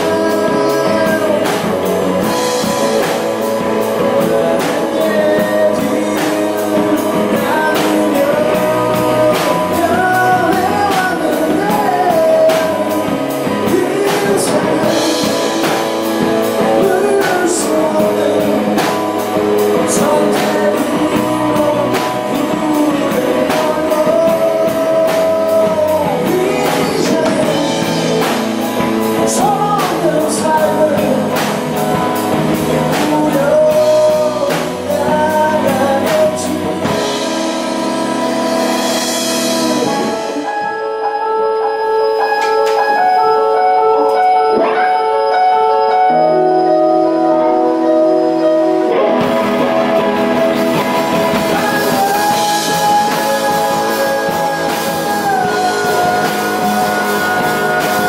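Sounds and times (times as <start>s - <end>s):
drum kit steady beat: 0.0s - 40.8s, 47.9s - 58.0s
electric guitar: 0.0s - 58.0s
man singing: 0.0s - 58.0s
stage keyboard: 0.0s - 58.0s.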